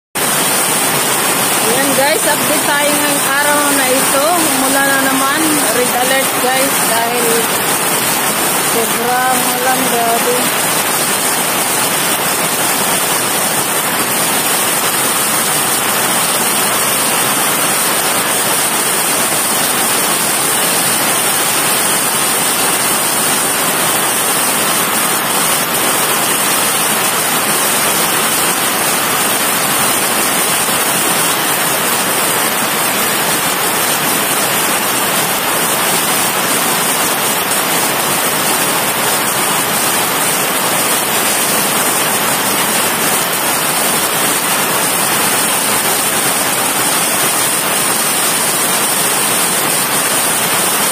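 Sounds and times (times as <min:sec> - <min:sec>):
heavy rain on roofs: 0:00.2 - 0:50.9.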